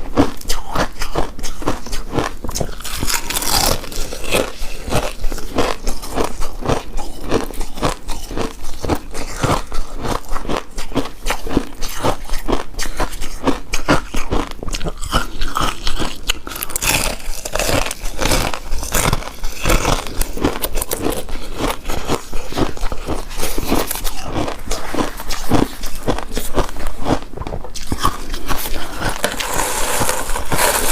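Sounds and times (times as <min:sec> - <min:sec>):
chewing with mouth clicks: 0:00.0 - 0:30.9.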